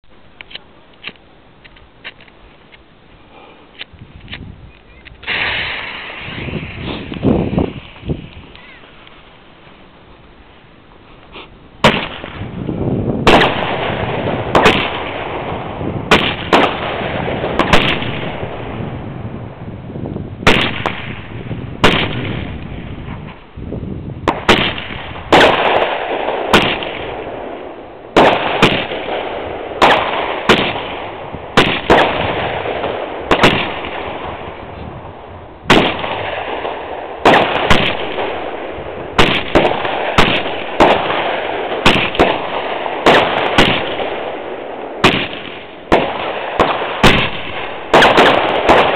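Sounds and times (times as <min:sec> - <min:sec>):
rushing of burning fireworks: 0:00.0 - 0:48.9
fireworks bangs: 0:03.7 - 0:10.7, 0:11.3 - 0:19.7, 0:20.4 - 0:23.5, 0:24.2 - 0:48.9.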